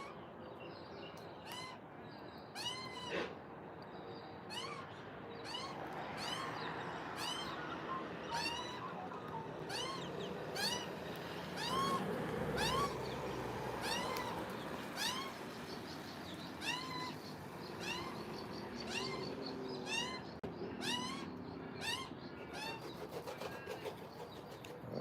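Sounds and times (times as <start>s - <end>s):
bird mewing calls: 4.5s - 25.0s.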